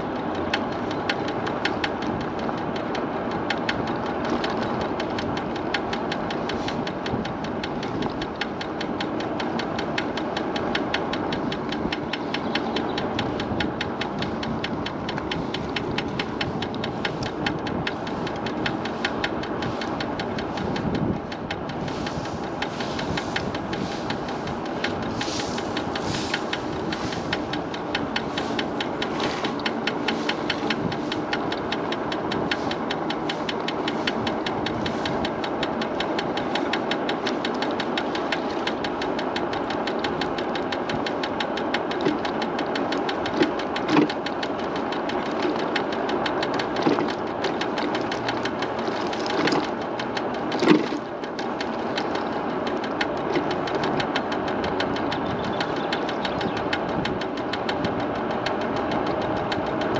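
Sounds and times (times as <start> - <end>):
electric scooter riding: 0.0 - 59.9
wheel knocking: 0.0 - 59.9.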